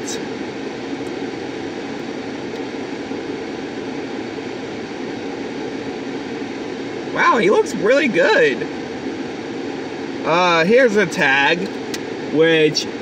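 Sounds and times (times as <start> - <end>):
car air conditioning blower: 0.0 - 13.0.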